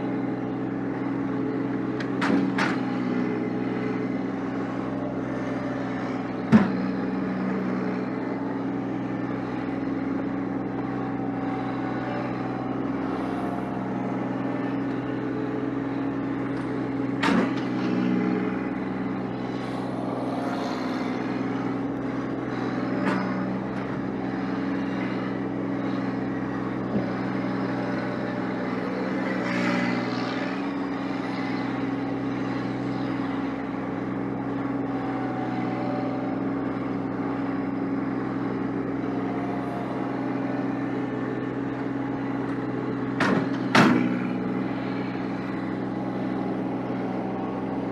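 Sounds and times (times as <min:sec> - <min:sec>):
vehicle engine running: 0:00.0 - 0:47.9.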